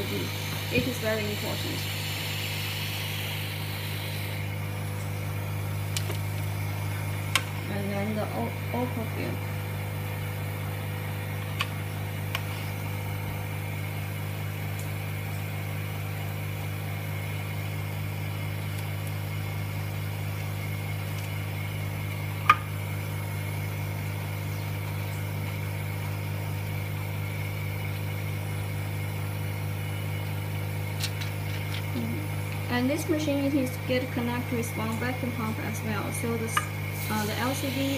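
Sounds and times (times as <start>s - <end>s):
vacuum pump humming: 0.0s - 37.9s.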